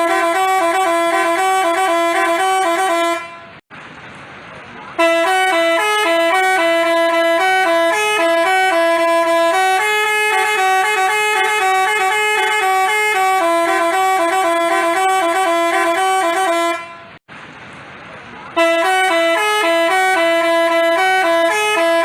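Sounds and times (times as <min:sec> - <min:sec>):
musical bus horn playing tune: 0:00.0 - 0:03.6, 0:05.0 - 0:17.2, 0:18.6 - 0:22.0.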